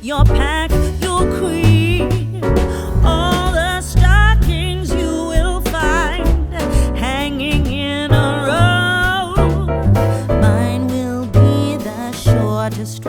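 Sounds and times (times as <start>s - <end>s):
song with pulsing bass: 0.0s - 13.0s.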